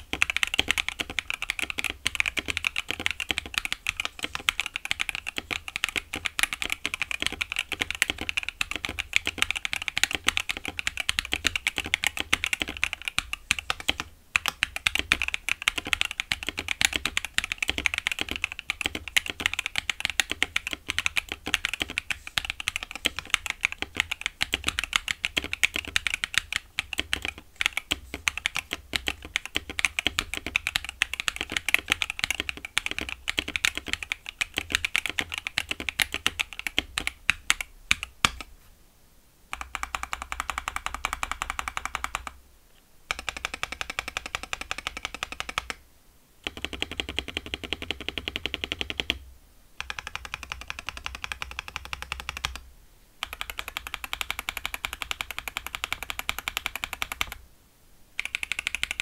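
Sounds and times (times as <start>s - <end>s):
mechanical keyboard typing: 0.0s - 38.5s, 39.5s - 42.4s, 43.1s - 45.8s, 46.4s - 49.2s, 49.8s - 52.6s, 53.2s - 57.4s, 58.2s - 59.0s.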